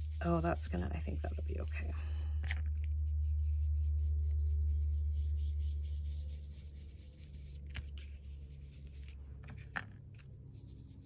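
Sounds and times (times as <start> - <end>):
brush dabbing on paper: 0.0 - 11.0
low steady hum: 0.0 - 11.0.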